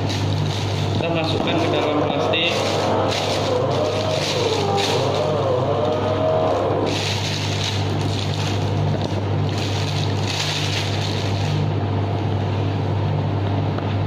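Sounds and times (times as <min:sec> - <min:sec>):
plastic bag rustling: 0:00.0 - 0:11.7
low machine hum: 0:00.0 - 0:14.0.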